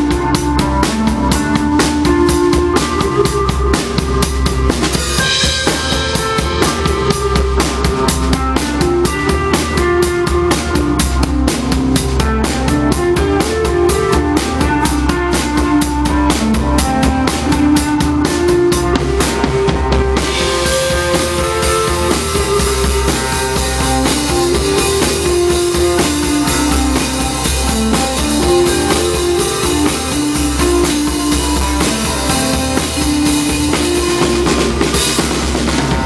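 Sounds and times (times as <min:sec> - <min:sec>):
bass line: 0:00.0 - 0:36.0
drum kit fast beat: 0:00.0 - 0:36.0
live band music: 0:00.0 - 0:36.0.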